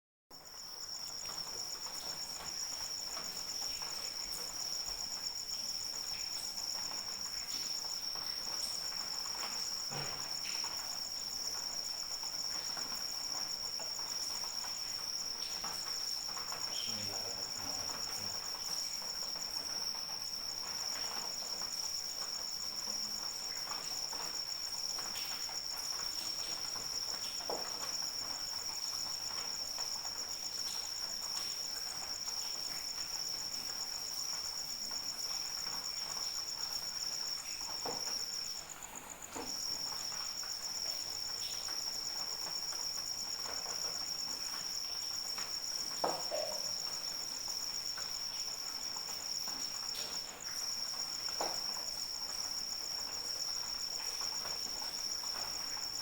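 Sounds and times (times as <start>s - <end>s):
crickets trilling: 0.3s - 56.0s
higher pulsing insect trill: 0.4s - 56.0s
light rain patter: 0.4s - 56.0s.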